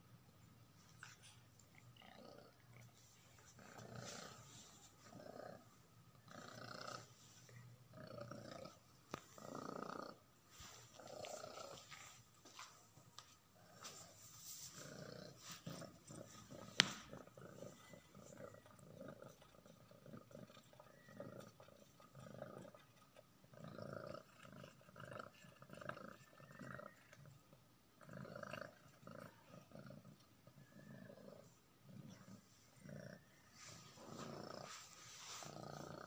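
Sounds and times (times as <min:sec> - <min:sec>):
cat purring: 0:01.0 - 0:12.2, 0:13.6 - 0:36.0.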